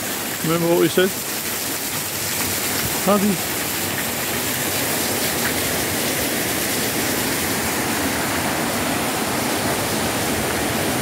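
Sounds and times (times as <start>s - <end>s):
water rushing down rocky creek: 0.0s - 11.0s.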